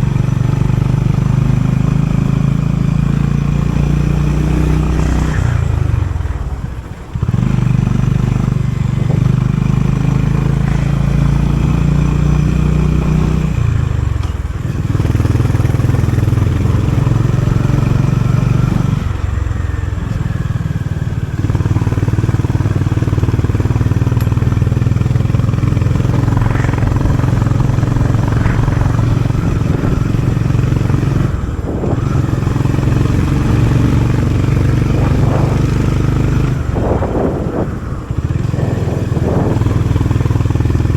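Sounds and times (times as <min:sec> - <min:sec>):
motorcycle engine pulling: 0:00.0 - 0:40.9.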